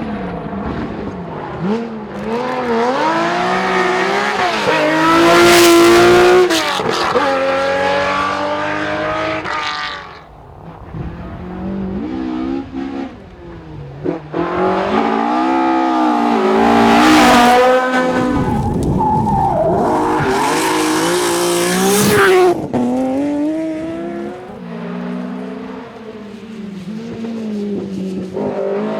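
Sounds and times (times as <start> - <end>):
rally car engines revving past: 0.0 - 28.9.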